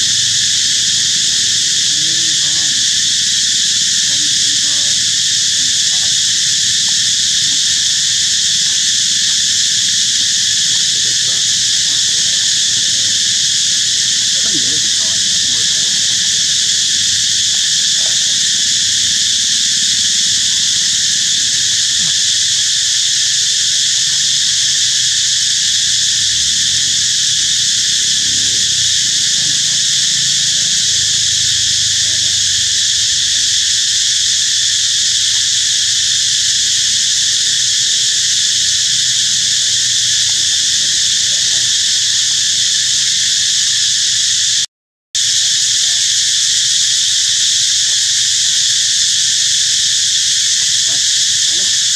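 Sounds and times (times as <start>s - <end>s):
insect chorus buzzing: 0.0s - 51.9s.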